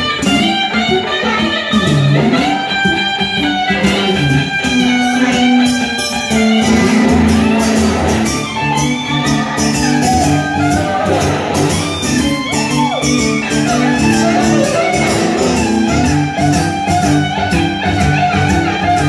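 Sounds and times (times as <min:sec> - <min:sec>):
acoustic guitar: 0:00.0 - 0:19.0
electric guitar gliding lead notes: 0:00.0 - 0:19.0.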